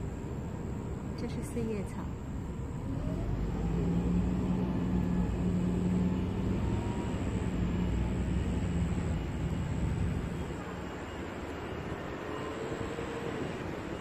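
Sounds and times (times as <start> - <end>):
low engine hum with rumble: 0.0 - 14.0.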